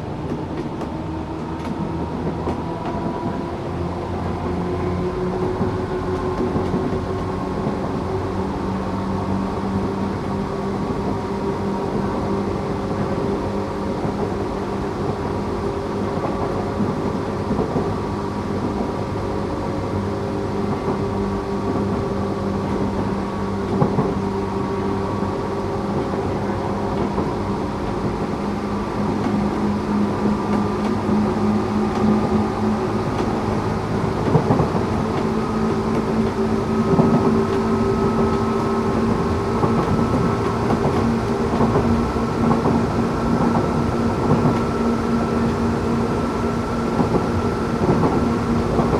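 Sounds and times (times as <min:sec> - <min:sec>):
electric train motor hum: 0:00.1 - 0:48.9.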